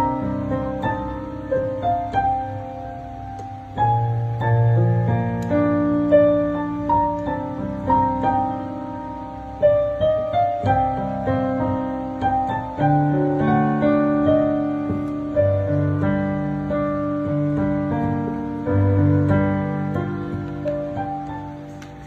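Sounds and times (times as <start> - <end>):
piano playing: 0.0 - 22.0.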